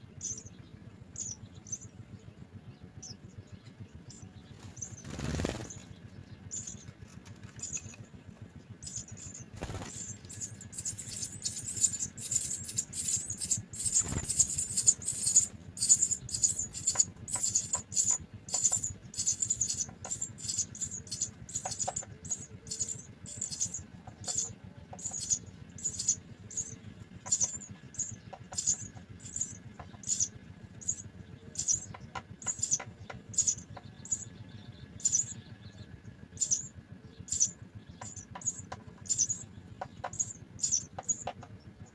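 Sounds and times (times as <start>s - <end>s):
nestlings begging chirps: 0.0s - 41.9s.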